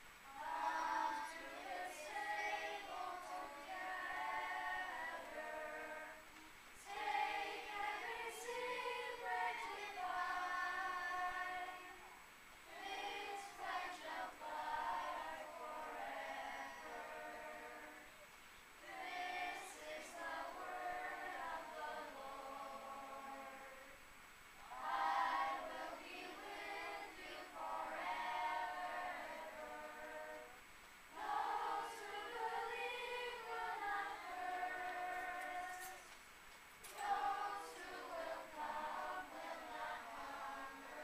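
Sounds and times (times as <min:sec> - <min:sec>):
children's choir singing: 0:00.0 - 0:24.0, 0:24.6 - 0:36.2, 0:36.8 - 0:41.0.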